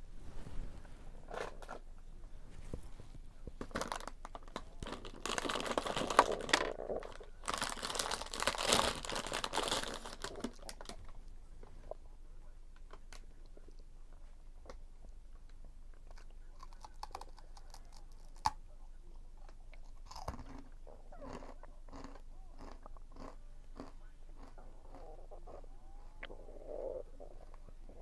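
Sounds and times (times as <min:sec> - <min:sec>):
chewing and crunching food: 0:03.6 - 0:28.0.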